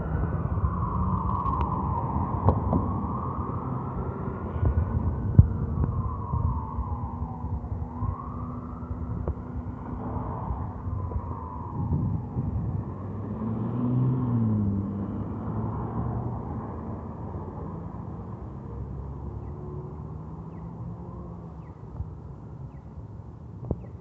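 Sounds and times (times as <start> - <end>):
falling siren wail: 0.0 - 21.9
vehicle engines rumbling: 0.0 - 24.0.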